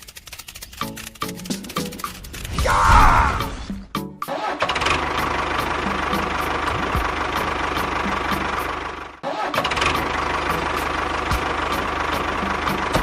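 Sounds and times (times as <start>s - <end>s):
engine knocking steadily: 0.0s - 2.5s, 4.7s - 13.0s.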